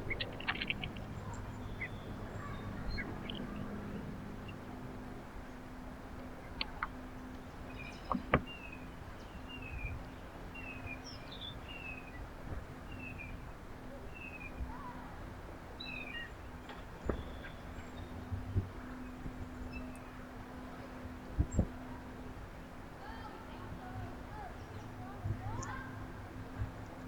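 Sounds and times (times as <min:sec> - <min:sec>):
small birds chirping: 0:00.0 - 0:15.1, 0:15.8 - 0:21.9, 0:23.9 - 0:27.0
steady low hum: 0:00.0 - 0:27.0.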